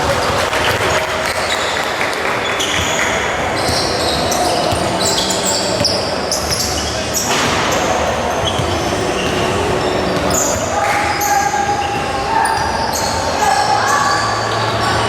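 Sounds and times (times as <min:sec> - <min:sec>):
crowd din in echoing hall: 0:00.0 - 0:15.0.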